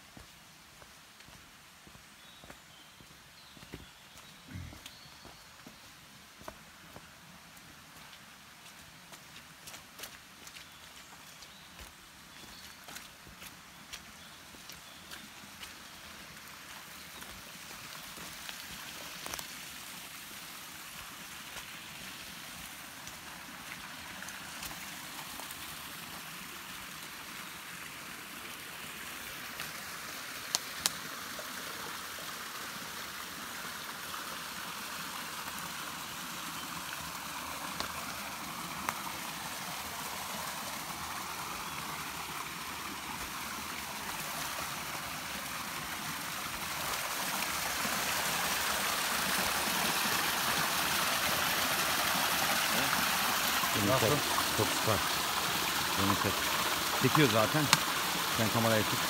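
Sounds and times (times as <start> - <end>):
forest stream running: 0.0 - 59.0.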